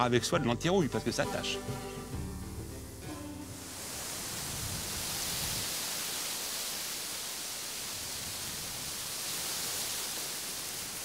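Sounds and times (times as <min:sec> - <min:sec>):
wind rustling leaves: 0:01.9 - 0:11.0.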